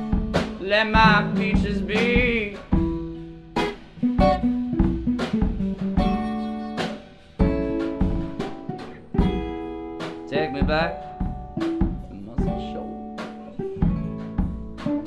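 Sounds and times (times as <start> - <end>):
acoustic guitar strumming chords: 0.0 - 15.0
drums: 0.0 - 15.0.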